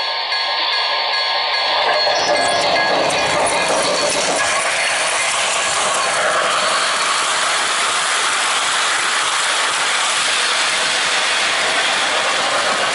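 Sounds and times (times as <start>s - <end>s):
model train rolling on track: 0.0s - 12.9s.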